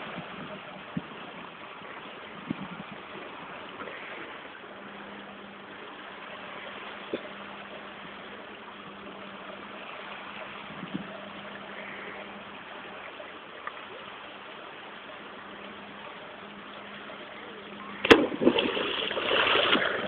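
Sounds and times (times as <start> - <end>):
low steady hum: 0.0 - 20.0
rush of water and air: 0.0 - 20.0.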